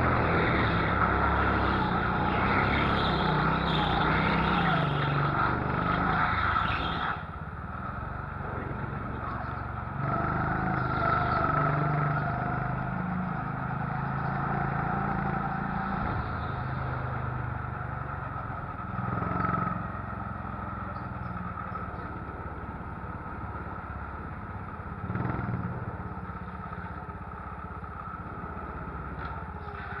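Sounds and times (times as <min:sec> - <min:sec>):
go-kart motor running: 0:00.0 - 0:30.0.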